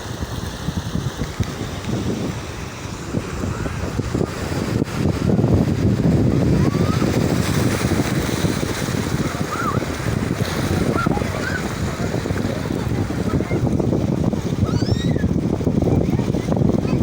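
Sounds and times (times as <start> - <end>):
sea waves washing onto shore: 0.0 - 17.0
wind buffeting microphone: 0.0 - 17.0.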